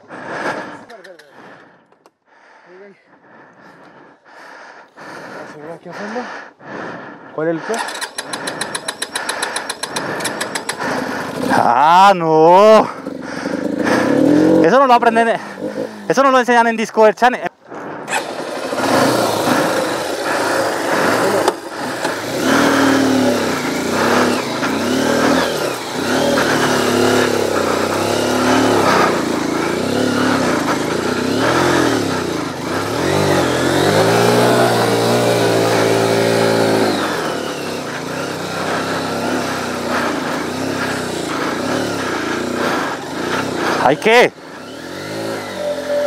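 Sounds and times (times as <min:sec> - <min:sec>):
motorcycle engine revving: 0:07.6 - 0:17.2, 0:17.9 - 0:46.0.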